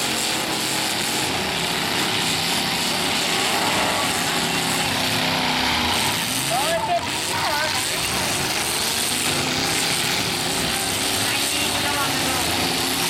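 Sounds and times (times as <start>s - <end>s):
truck engines running hard: 0.0s - 13.0s.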